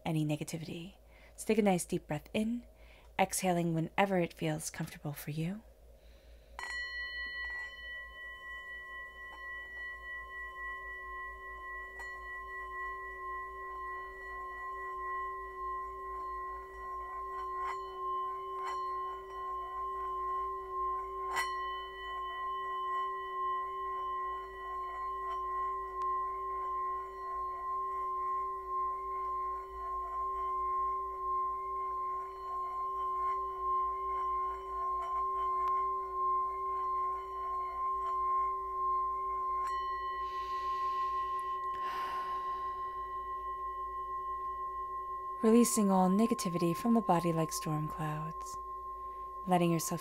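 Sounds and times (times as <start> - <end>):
singing bowl ringing tone: 0.0 - 50.0.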